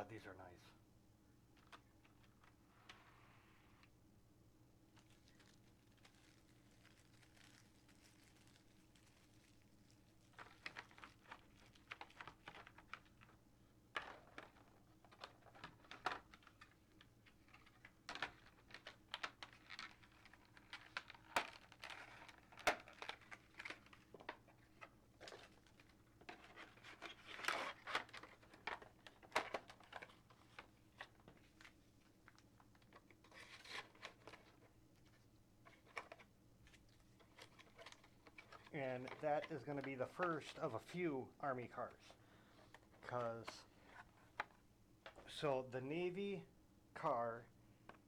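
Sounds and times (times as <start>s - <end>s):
packaging rustling and crinkling: 4.9s - 13.4s, 14.0s - 45.4s.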